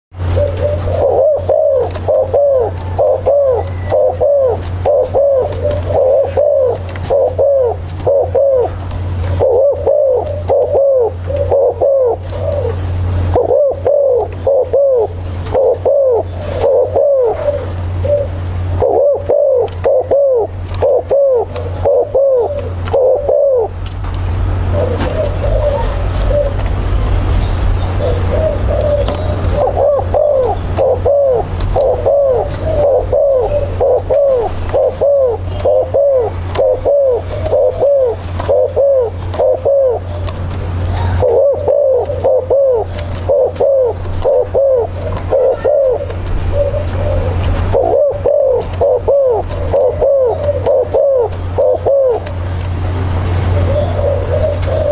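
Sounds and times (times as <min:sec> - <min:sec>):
steady low hum: 0:00.1 - 0:54.9
dove cooing: 0:00.2 - 0:54.9.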